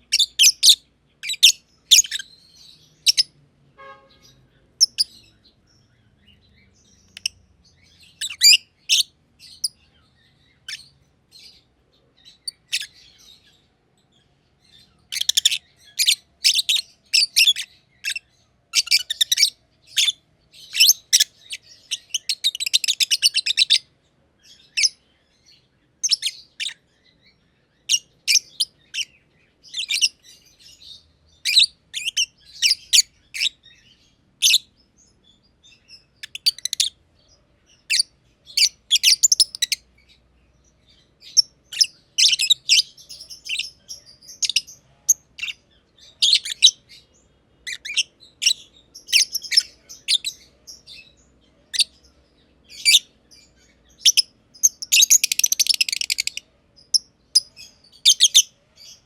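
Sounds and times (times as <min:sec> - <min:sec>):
lovebirds chirping: 0:00.0 - 0:59.0.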